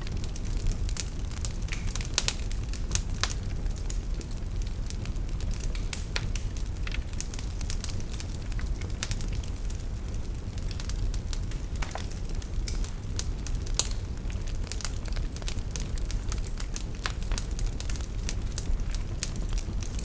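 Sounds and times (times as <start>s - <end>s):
fire crackling and popping: 0.0s - 20.0s
low fire rumble: 0.0s - 20.0s.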